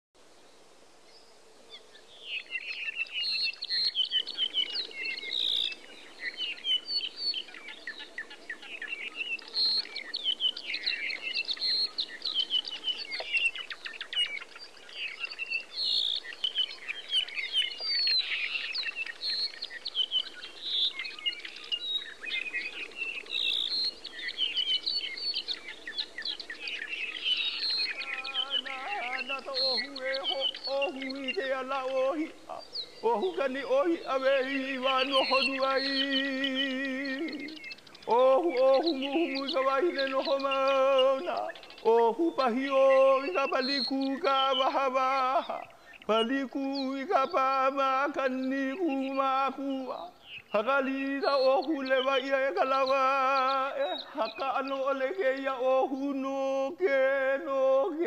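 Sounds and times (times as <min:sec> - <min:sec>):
birds chirping and singing: 0:00.4 - 0:58.0.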